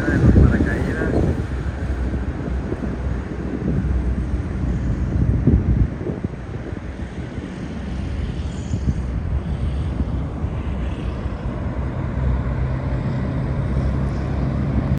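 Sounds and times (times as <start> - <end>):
propeller airplane engine droning: 0.0 - 14.9
wind noise on microphone: 0.0 - 14.9.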